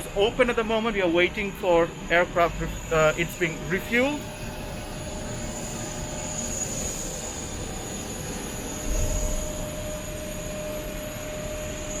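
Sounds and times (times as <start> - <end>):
airliner cabin hum: 0.0 - 12.0
high whine: 0.0 - 12.0.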